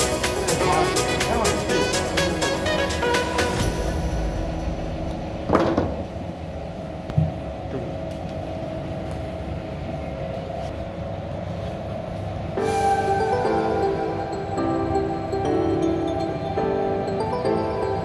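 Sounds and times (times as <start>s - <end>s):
indoor room hum: 0.0s - 18.0s.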